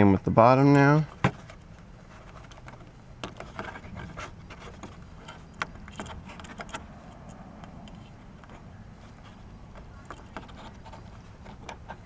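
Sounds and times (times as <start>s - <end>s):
wire bending and rubbing: 1.0s - 12.0s.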